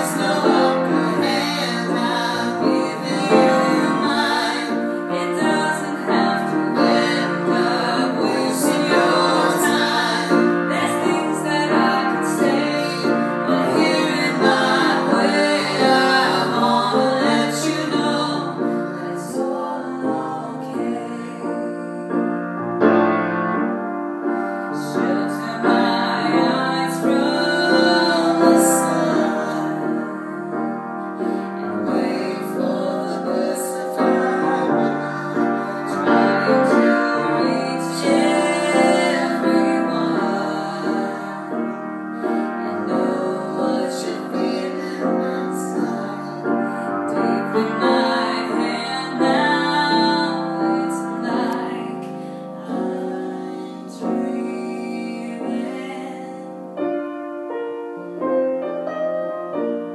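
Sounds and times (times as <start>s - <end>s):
woman and man singing: 0.0s - 22.4s, 24.8s - 30.6s, 31.2s - 56.7s
piano accompaniment: 0.0s - 59.9s.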